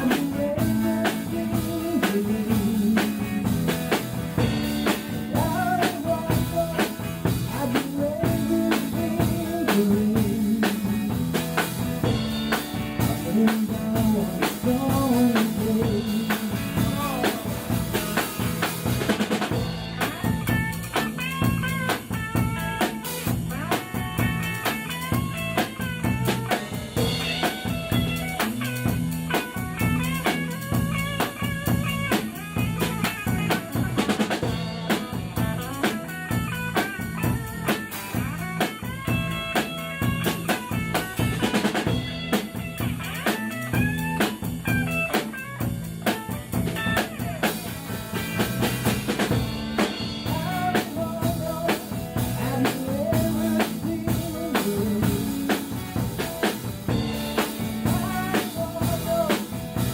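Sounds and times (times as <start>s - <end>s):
rock music: 0.0s - 59.9s.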